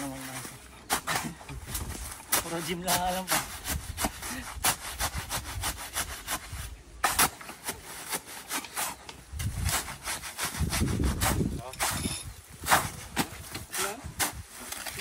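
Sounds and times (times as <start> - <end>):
shovels scraping wet cement: 0.0 - 15.0.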